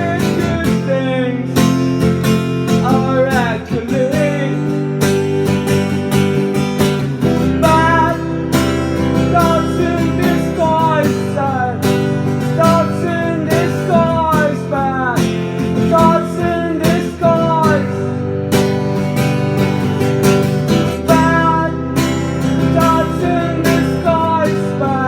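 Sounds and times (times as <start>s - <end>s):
sliding guitar melody: 0.0s - 25.0s
strummed acoustic guitar: 0.0s - 25.0s.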